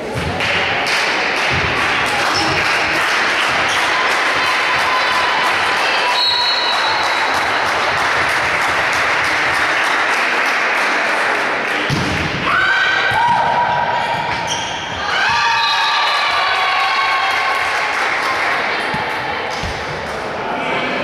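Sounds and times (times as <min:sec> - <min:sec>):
players shouting and cheering: 0:00.0 - 0:21.0
sports hall din: 0:00.0 - 0:21.0.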